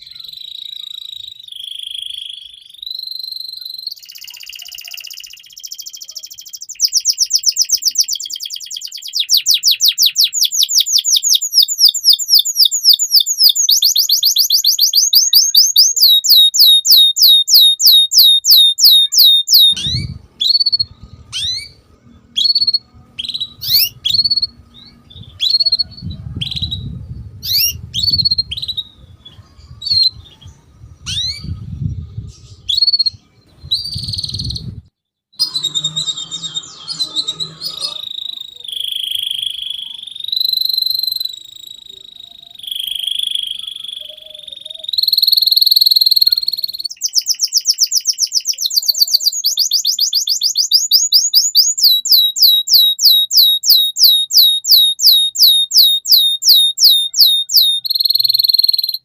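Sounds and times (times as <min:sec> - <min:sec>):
canary singing: 0:00.0 - 0:34.8, 0:35.4 - 0:59.0.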